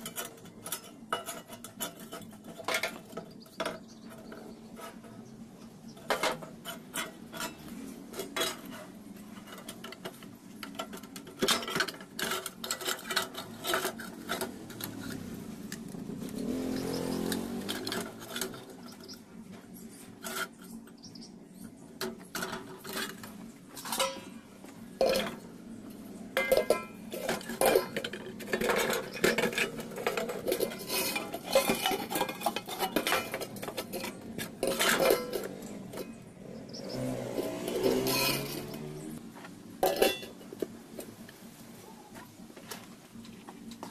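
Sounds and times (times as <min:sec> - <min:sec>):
metal parts clinking and scraping: 0:00.0 - 0:21.0, 0:21.9 - 0:39.2, 0:39.8 - 0:41.2.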